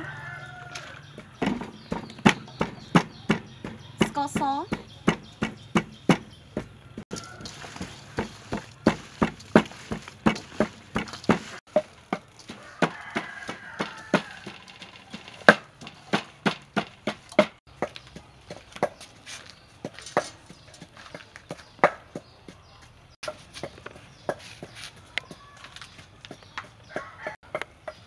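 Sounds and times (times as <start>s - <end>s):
pestle pounding in wooden mortar: 0.0s - 25.6s.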